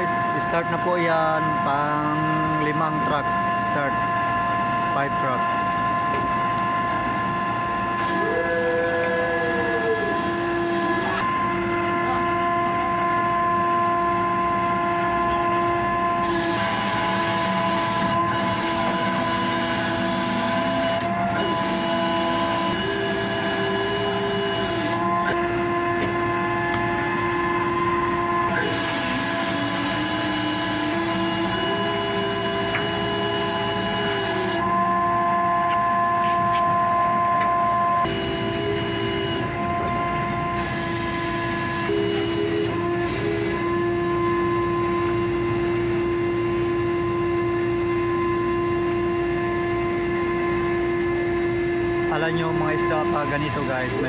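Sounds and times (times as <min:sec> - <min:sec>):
machinery droning whines: 0:00.0 - 0:54.0.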